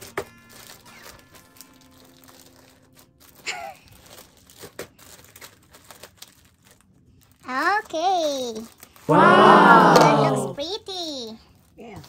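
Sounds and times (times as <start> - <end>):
plastic wrap crinkling: 0.0 - 9.1, 11.4 - 12.0.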